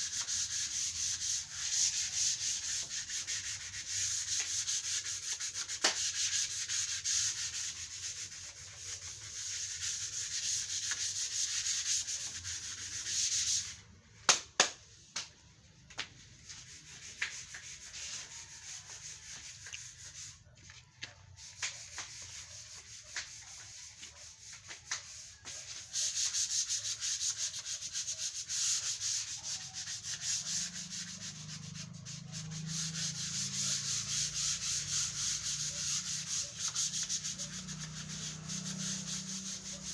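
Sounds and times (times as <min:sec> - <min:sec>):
sandpaper scraping wood: 0:00.0 - 0:13.9, 0:16.3 - 0:39.9.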